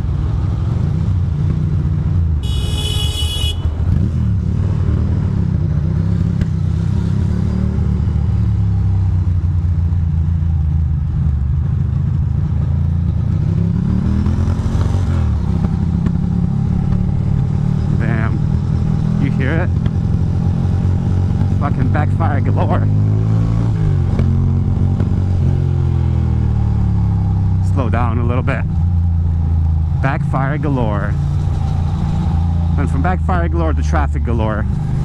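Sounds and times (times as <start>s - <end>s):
motorcycle engine revving: 0.0s - 10.4s, 11.6s - 35.0s.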